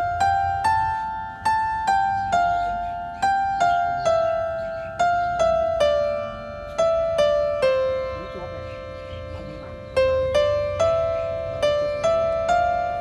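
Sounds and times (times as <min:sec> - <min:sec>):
simple melody of struck notes: 0:00.0 - 0:13.0.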